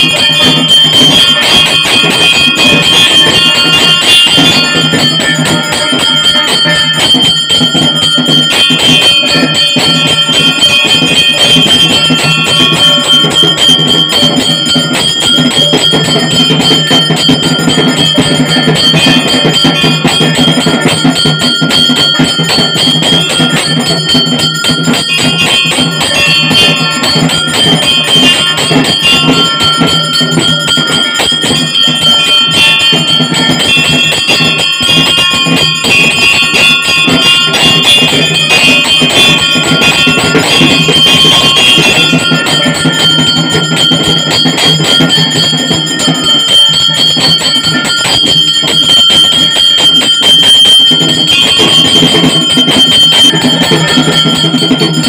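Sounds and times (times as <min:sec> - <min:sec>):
hand bell rung rapidly: 0:00.0 - 0:55.0.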